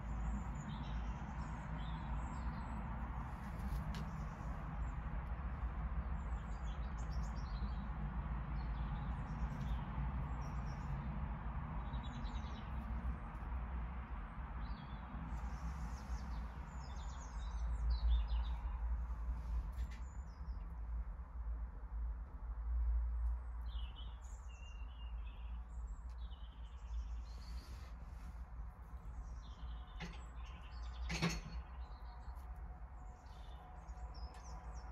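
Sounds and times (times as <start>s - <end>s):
small birds chirping: 0.0s - 11.1s, 11.7s - 13.4s, 14.6s - 20.9s, 23.2s - 34.9s
low steady rumble: 0.0s - 30.9s.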